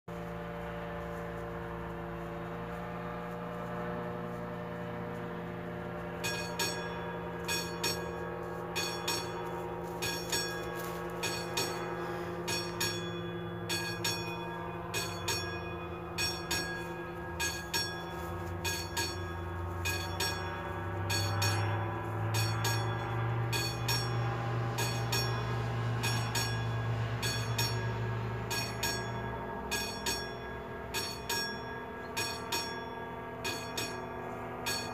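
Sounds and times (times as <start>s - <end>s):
low engine hum: 0.1s - 34.9s
level crossing bell ringing: 6.1s - 34.9s.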